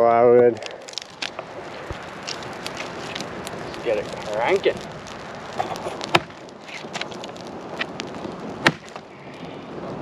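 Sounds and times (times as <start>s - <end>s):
campfire crackling: 0.0s - 10.0s
loud sharp wood cracks: 0.4s - 9.6s.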